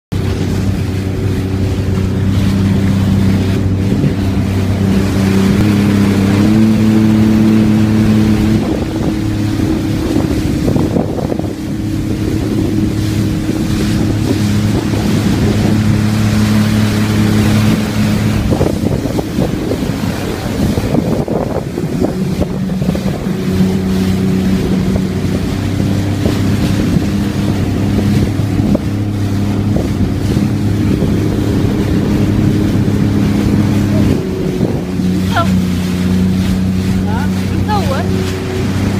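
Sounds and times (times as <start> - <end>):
jet ski engine drone: 0.1 - 38.9
water splashing: 0.1 - 38.9
wind on microphone: 0.1 - 38.9.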